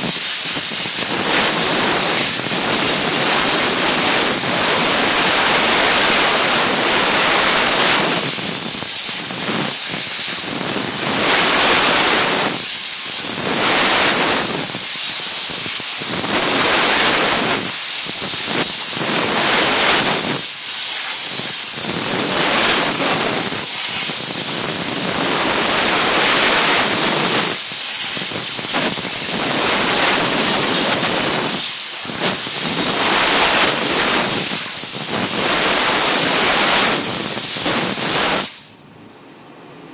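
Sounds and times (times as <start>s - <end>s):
steam cleaner jet hissing: 0.0s - 38.8s.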